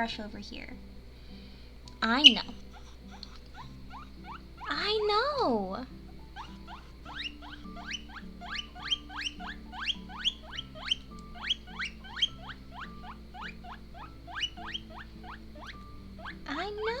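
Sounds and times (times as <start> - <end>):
faint background music: 0.0 - 17.0
guinea pig squeaking: 2.0 - 17.0.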